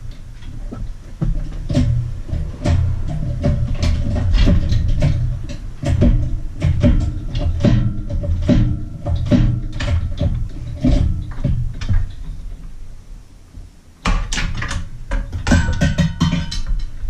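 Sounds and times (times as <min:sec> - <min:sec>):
metal knocks and clunks: 0:00.0 - 0:12.7, 0:14.0 - 0:17.0.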